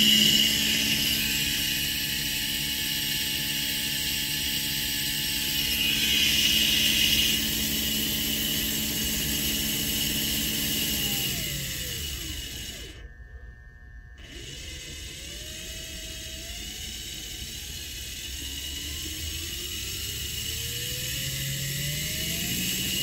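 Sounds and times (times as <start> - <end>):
motor whine over gear noise: 0.0 - 23.0.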